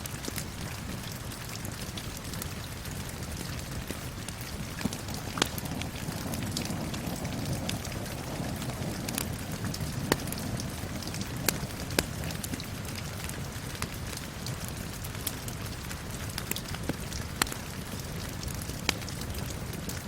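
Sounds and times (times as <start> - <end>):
falling rain hiss: 0.0 - 20.0
fire popping: 0.0 - 20.0
wood fire crackling: 0.0 - 20.0.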